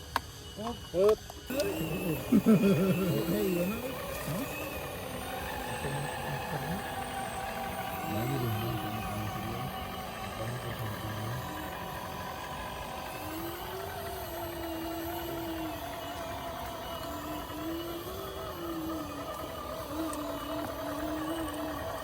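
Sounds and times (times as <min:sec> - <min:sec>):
small electric motor whining: 0:00.0 - 0:22.0.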